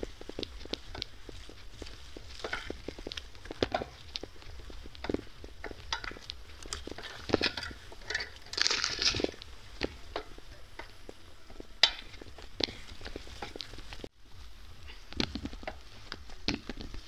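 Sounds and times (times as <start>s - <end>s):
footsteps: 0.0s - 17.0s
rustling: 0.0s - 17.0s.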